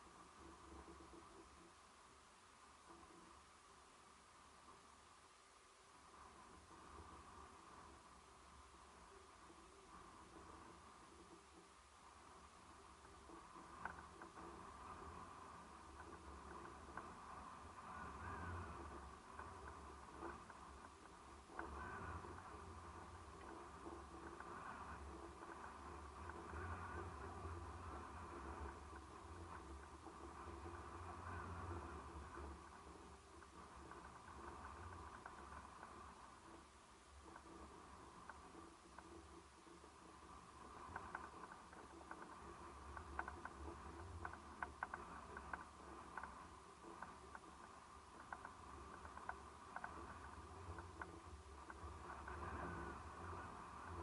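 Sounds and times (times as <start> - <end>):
low rumble of calm sea: 0.0 - 54.0
soft hiss: 0.0 - 54.0
light ticks and clicks: 8.9 - 54.0.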